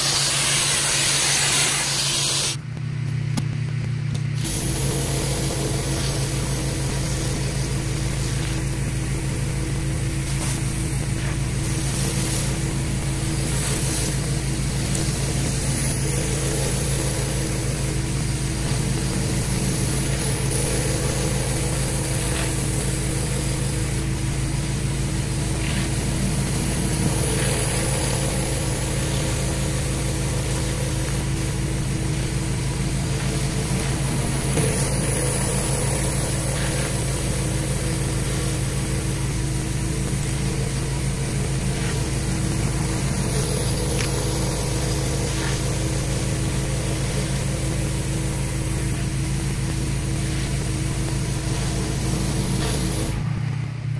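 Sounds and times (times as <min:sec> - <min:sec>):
water spray hissing: 0:00.0 - 0:02.6, 0:04.4 - 0:53.3
pressure washer humming: 0:00.0 - 0:53.9.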